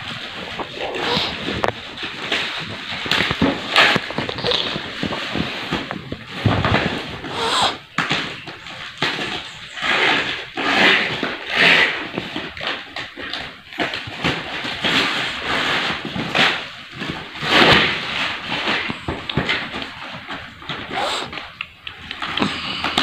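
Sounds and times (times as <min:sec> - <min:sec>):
cardboard scraping: 0:00.0 - 0:23.0
plastic wrap crinkling: 0:00.0 - 0:23.0.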